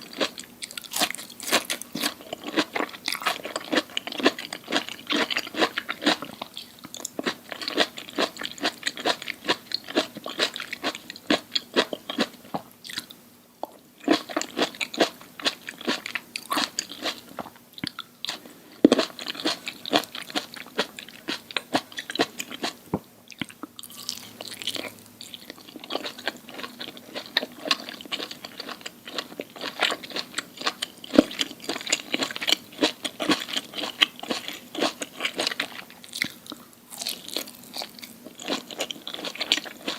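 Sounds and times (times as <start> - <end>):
crunchy chewing: 0.0 - 13.2, 14.0 - 39.9.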